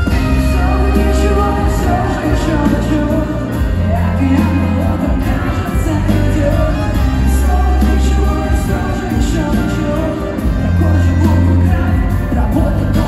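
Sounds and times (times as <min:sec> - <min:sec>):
pop song over sound system: 0:00.0 - 0:13.0.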